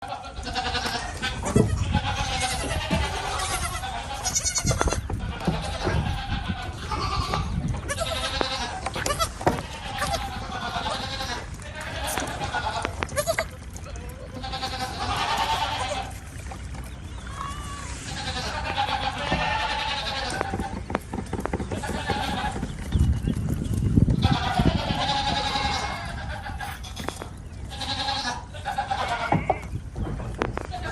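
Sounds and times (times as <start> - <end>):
goats bleating: 0.0 - 16.4, 17.1 - 20.8, 21.8 - 22.7, 24.2 - 29.7, 30.7 - 30.9.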